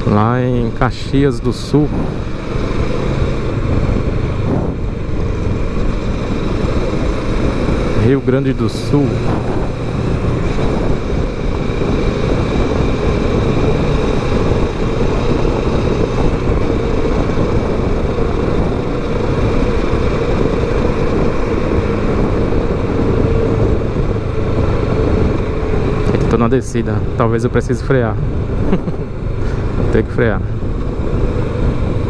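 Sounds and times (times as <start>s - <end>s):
motorcycle engine cruising: 0.0s - 32.0s
wind and road noise: 0.0s - 32.0s.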